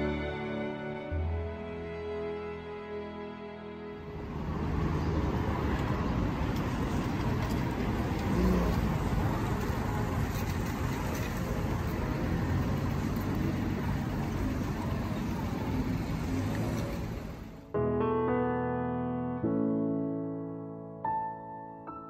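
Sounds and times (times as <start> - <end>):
car road and engine noise: 0.0 - 17.7.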